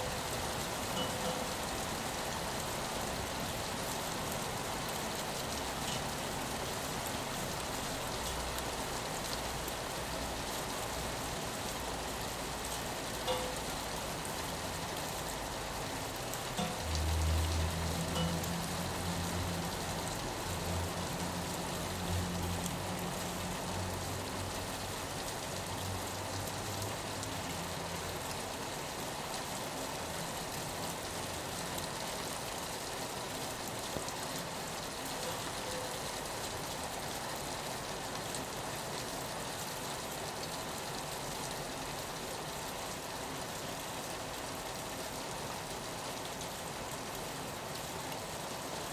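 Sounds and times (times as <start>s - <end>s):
rain on a window pane: 0.0s - 48.9s.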